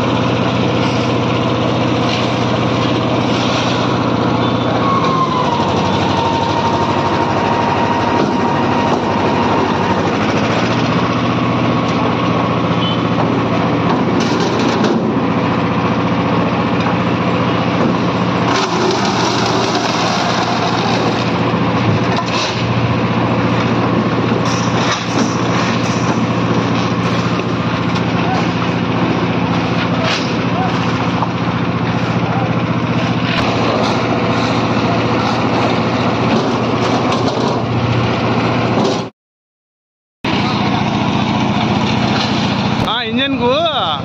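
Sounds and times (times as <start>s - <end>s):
concrete mixer engine humming: 0.0s - 39.1s, 40.2s - 44.0s.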